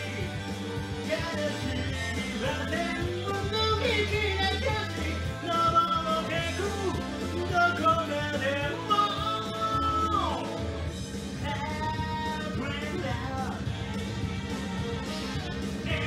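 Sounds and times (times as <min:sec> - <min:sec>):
band backing track: 0:00.0 - 0:16.0
person singing rock song: 0:00.0 - 0:16.0.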